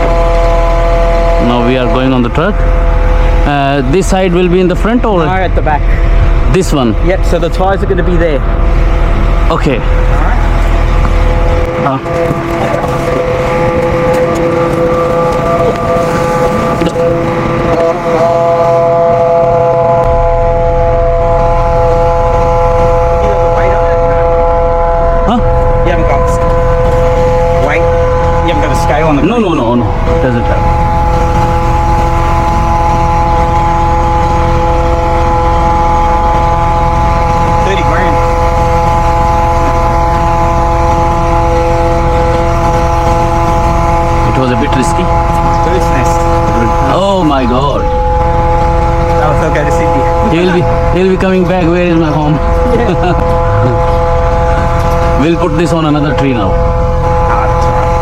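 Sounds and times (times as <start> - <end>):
hydraulic whine: 0.0 - 58.0
truck engine running: 0.0 - 58.0.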